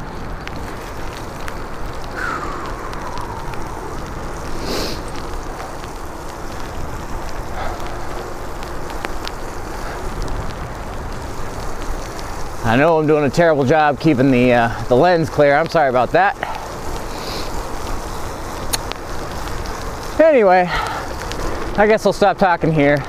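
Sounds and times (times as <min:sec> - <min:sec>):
falling whine: 0:00.0 - 0:21.8
wind rush: 0:00.0 - 0:22.4
tyre hiss on wet pavement: 0:00.0 - 0:23.0.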